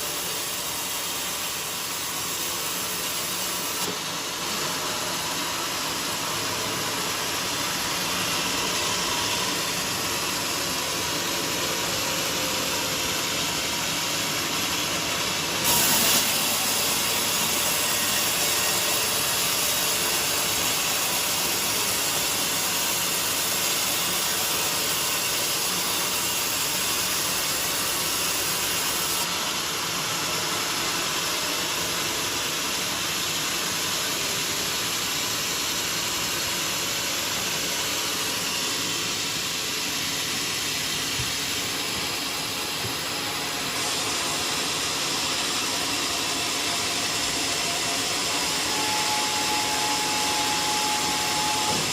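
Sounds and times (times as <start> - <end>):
band saw cutting log: 0.0 - 51.9.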